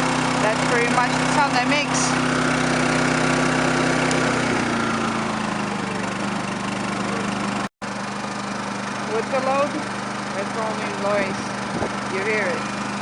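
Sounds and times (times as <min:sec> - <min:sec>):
generator running: 0:00.0 - 0:13.0.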